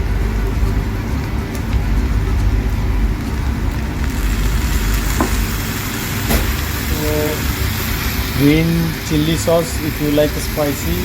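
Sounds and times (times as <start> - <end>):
stove roar: 0.0 - 11.0
frying hiss: 1.0 - 11.0.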